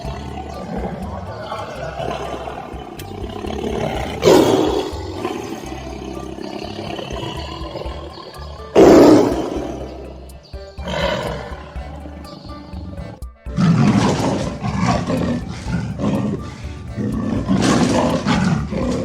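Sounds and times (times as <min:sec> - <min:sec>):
background music: 0:00.0 - 0:19.0
rough animal calls: 0:00.0 - 0:19.0.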